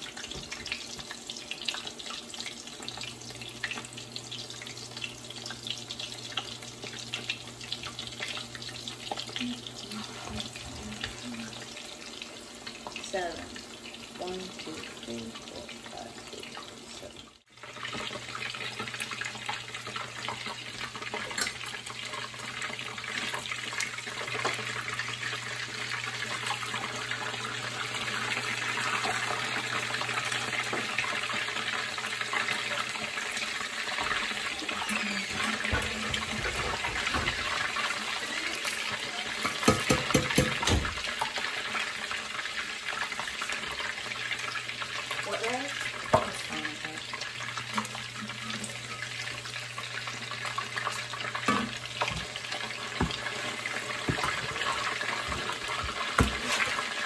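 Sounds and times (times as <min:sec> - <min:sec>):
fish cakes sizzling in oil: 0:00.0 - 0:57.0.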